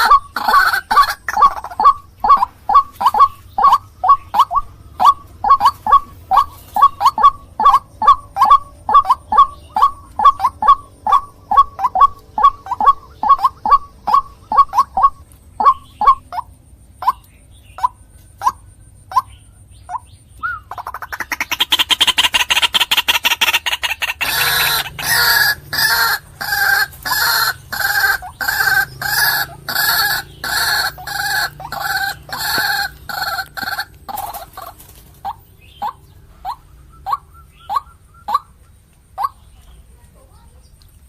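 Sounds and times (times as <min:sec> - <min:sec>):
waterhen calling: 0:00.0 - 0:39.6.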